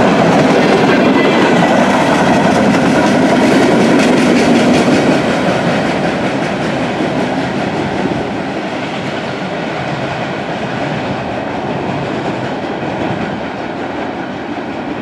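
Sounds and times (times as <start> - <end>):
freight cars rolling on rails: 0.0 - 15.0.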